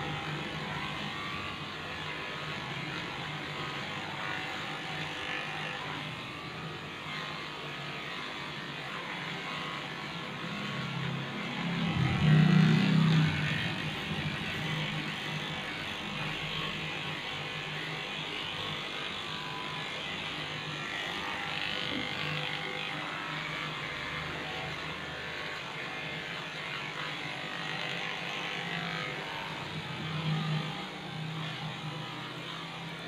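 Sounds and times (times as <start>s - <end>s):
electric hair clipper buzzing: 0.0s - 33.0s.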